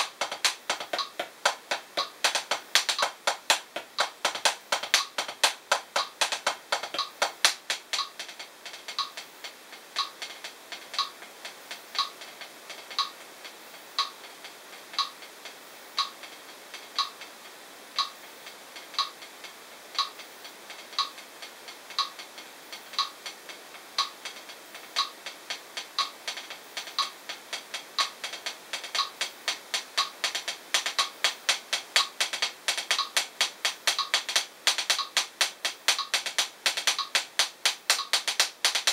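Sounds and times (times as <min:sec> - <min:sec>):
metronome clicking: 0:00.0 - 0:17.3, 0:18.8 - 0:19.3, 0:20.0 - 0:38.9
drumsticks on practice pad: 0:00.0 - 0:38.9.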